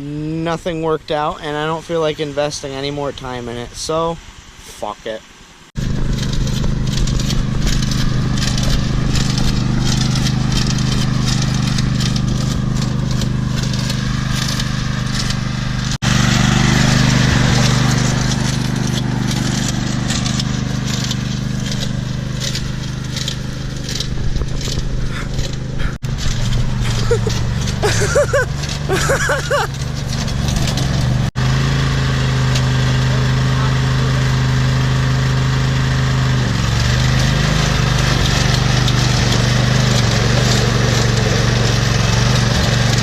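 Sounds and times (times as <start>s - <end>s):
small petrol engine running: 5.8s - 43.0s.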